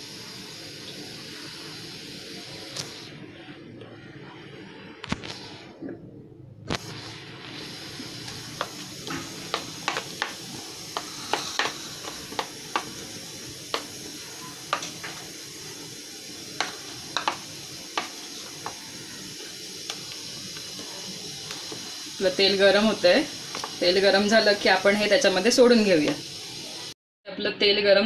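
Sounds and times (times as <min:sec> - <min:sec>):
steady kitchen hiss: 0:00.0 - 0:05.9, 0:06.6 - 0:28.0.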